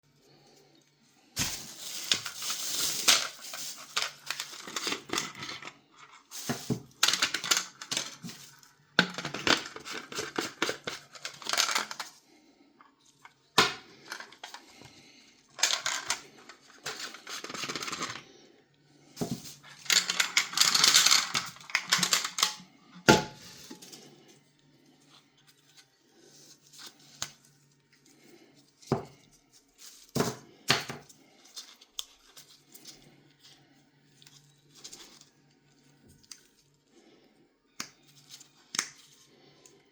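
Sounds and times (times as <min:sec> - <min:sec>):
plastic scraping and rustling: 0:00.5 - 0:12.3, 0:13.0 - 0:18.3, 0:19.2 - 0:36.8.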